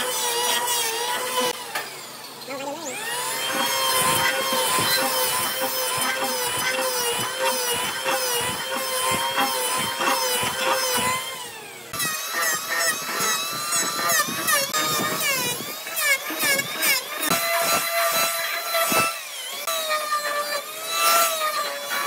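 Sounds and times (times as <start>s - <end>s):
power tool motor whine: 0.0s - 22.0s
wavering tool whine: 0.0s - 22.0s.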